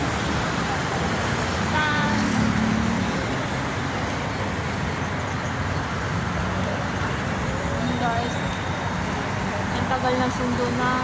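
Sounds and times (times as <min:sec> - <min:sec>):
cars driving past on busy road: 0:00.0 - 0:11.0.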